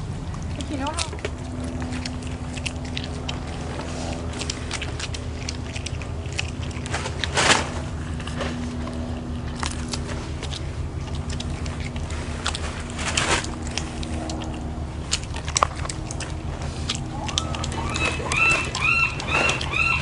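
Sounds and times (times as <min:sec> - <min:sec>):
low steady hum: 0:00.0 - 0:20.0
sea otter chewing clams: 0:00.0 - 0:20.0.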